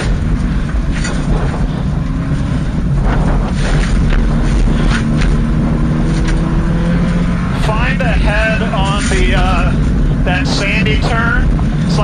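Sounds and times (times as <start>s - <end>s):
car engine running hard: 0.0s - 12.0s
road and wind noise: 0.0s - 12.0s.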